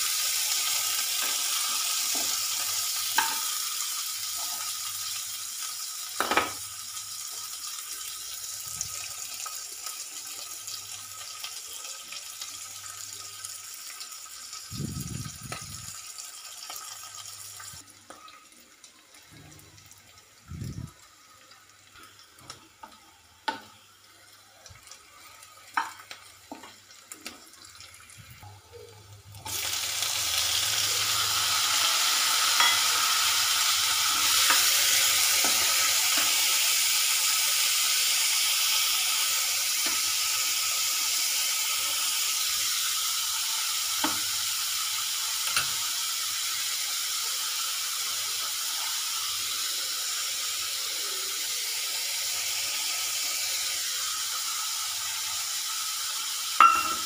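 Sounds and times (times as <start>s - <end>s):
tomatoes sizzling in hot oil: 0.0s - 57.0s.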